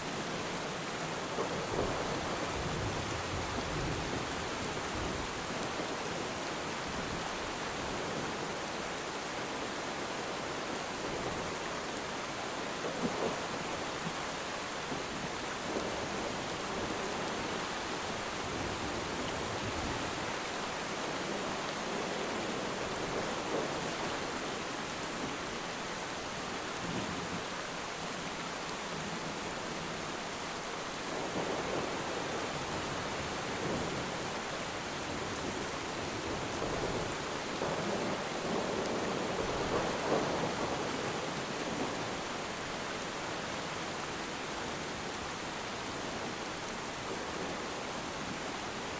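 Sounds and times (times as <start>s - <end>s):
rain falling on water: 0.0s - 48.9s.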